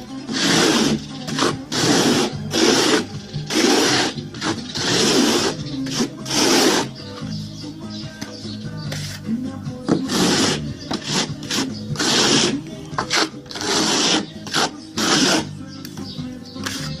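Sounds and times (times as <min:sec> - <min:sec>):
trowel scraping wet plaster: 0:00.0 - 0:07.2, 0:08.8 - 0:15.6, 0:16.5 - 0:17.0
quiet background music: 0:00.0 - 0:17.0.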